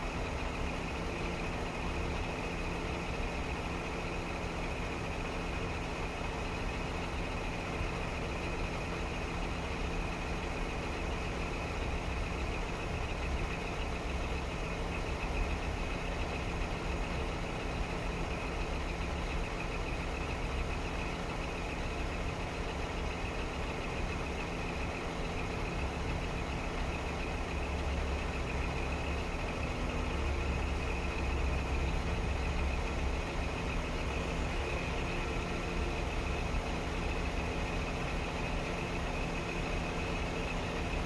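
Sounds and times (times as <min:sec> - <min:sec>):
diesel truck engine idling: 0:00.0 - 0:41.0.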